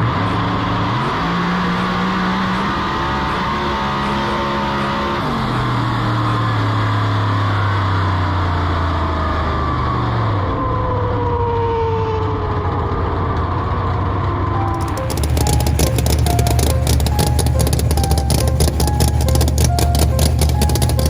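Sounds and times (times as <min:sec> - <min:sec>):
race car engine drone: 0:00.0 - 0:21.0.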